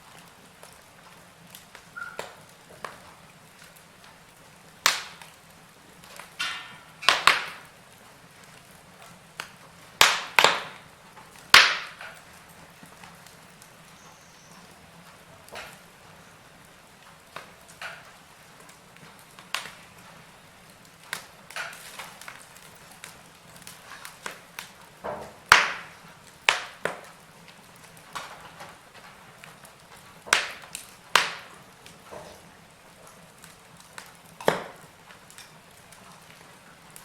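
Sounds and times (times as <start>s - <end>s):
faint steady hiss: 0.0s - 37.0s
fire crackling and popping: 0.0s - 37.0s.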